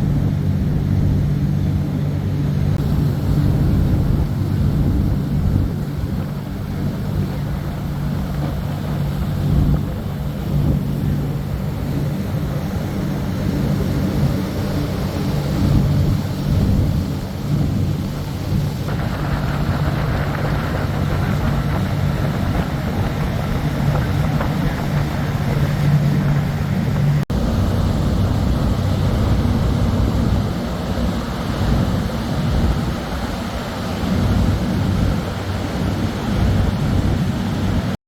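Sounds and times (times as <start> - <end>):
boat engine droning: 0.0 - 38.0.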